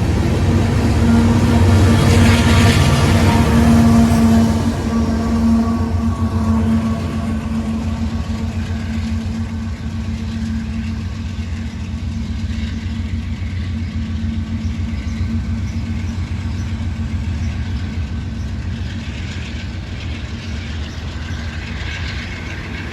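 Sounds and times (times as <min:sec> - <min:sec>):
locomotive engine drone: 0:00.0 - 0:22.9
rolling train rumble: 0:00.0 - 0:22.9.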